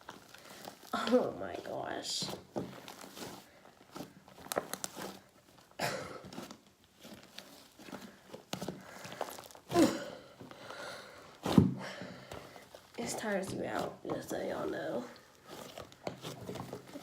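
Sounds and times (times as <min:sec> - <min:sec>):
slime squishing and crackling: 0:00.0 - 0:10.4, 0:11.2 - 0:17.0.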